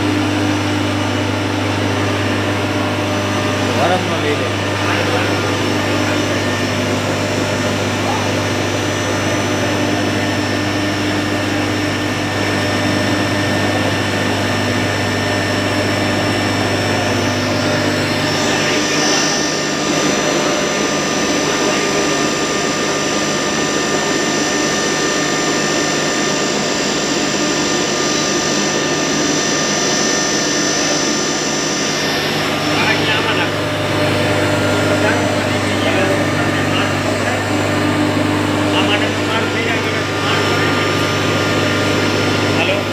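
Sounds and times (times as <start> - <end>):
grinding mill whirring: 0.0 - 42.9.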